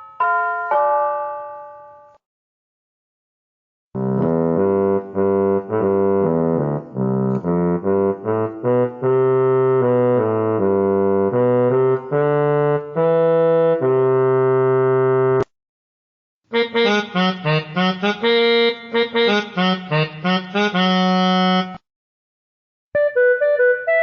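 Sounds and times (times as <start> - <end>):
electronic keyboard melody: 0.0 - 2.2, 4.0 - 15.5, 16.5 - 21.8, 23.0 - 24.0.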